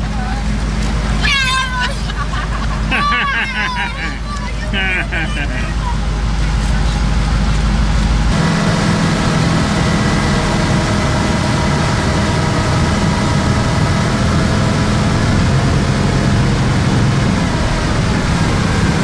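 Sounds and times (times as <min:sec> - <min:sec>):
engine running loudly: 0:00.0 - 0:19.0
noisy rush: 0:00.0 - 0:19.0.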